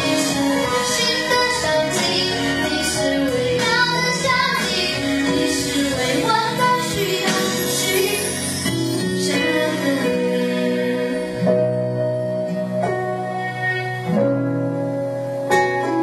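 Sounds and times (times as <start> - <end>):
boy singing pop ballad: 0.0 - 13.0
musical accompaniment: 0.0 - 16.0.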